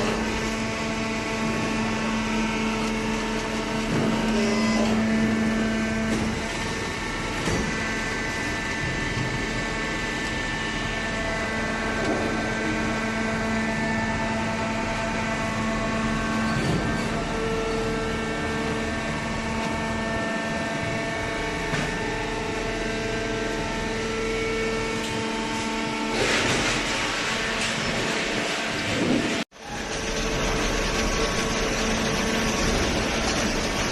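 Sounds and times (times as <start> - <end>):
baler motor and pump humming: 0.0 - 33.9.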